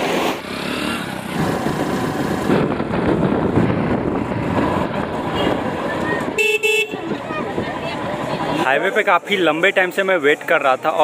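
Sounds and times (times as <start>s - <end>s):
road and wind rush: 0.0s - 11.0s.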